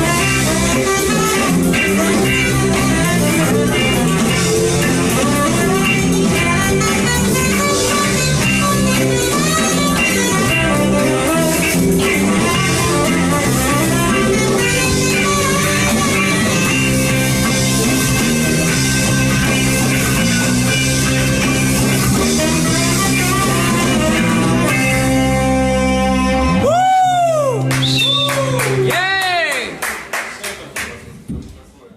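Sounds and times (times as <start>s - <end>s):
live rock band playing: 0.0s - 29.0s
steady bass line: 0.0s - 29.0s.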